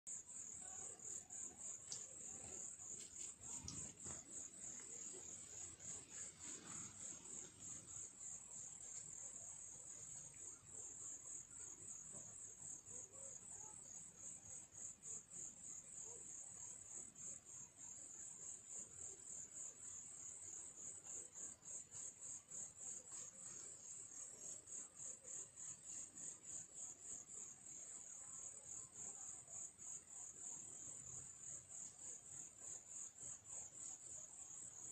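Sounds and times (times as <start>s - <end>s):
cricket trill: 0.1s - 34.9s.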